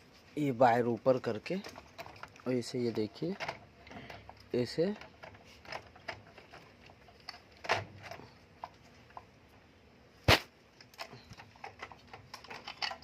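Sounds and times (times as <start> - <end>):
plastic parts clicking and knocking: 1.0 - 9.4, 10.8 - 13.0.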